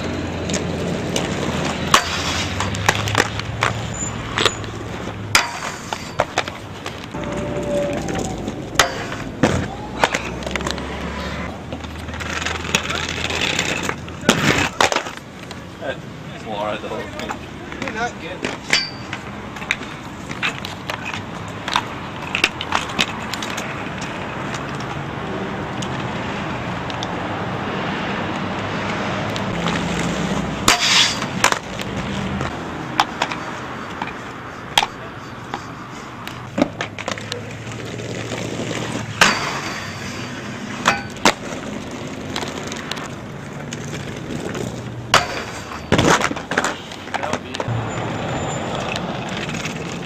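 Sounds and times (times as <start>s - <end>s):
skates clacking on ground and rail: 0.0s - 27.2s, 28.3s - 48.1s, 48.7s - 50.0s
inline skates rolling on concrete: 0.0s - 50.0s.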